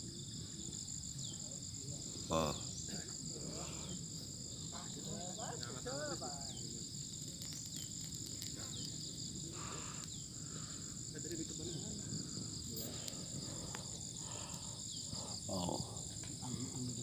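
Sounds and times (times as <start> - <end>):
insects chirring: 0.0 - 17.0
faint voices: 1.4 - 7.0, 8.4 - 17.0.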